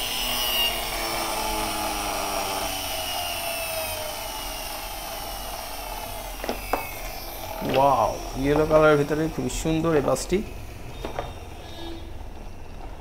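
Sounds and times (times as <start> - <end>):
toy flywheel motor whirring: 0.0 - 13.0.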